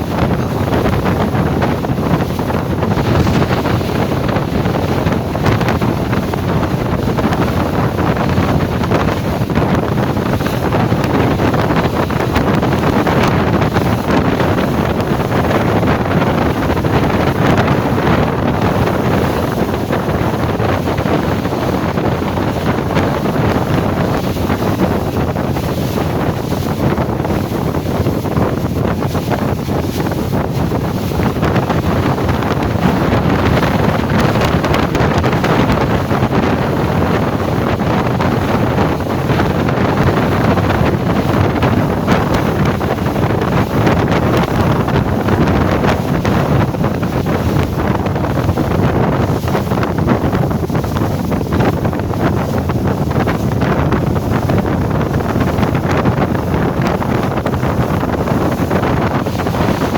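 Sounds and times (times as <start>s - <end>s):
sea waves rushing: 0.0s - 59.9s
wind buffeting microphone: 0.0s - 59.9s.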